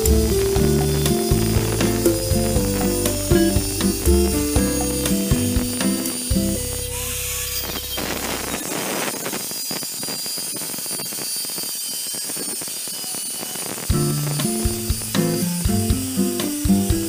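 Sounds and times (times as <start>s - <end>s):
angle grinder cutting steel: 0.0s - 15.6s.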